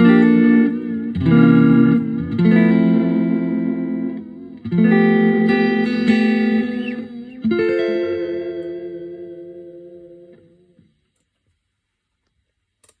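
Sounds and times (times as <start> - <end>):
electric guitar chords ringing: 0.0 - 10.9.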